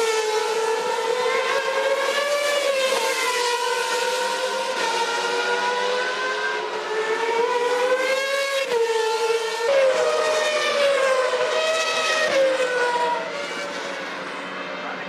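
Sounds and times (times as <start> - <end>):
racing car engine at high revs: 0.0 - 15.0.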